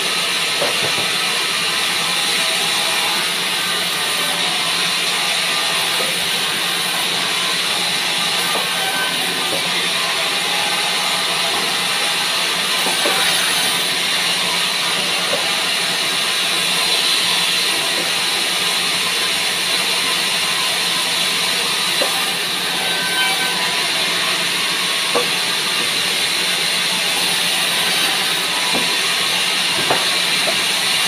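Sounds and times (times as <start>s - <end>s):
band saw cutting hiss: 0.5s - 31.0s.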